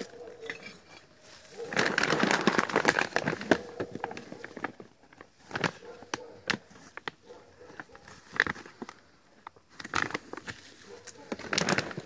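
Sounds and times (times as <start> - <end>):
paper sack crinkling: 0.0 - 12.0.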